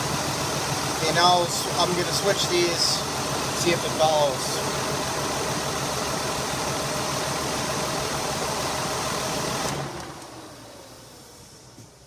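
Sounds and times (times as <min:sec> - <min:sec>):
car engine idling rough: 0:00.0 - 0:12.0
engine spinning down: 0:00.0 - 0:12.0.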